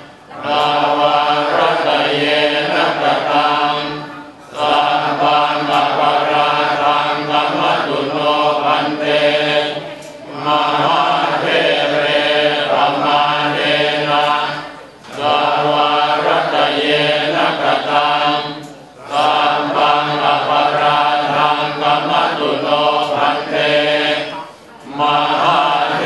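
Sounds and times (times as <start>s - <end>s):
monks chanting in unison: 0.0s - 26.0s.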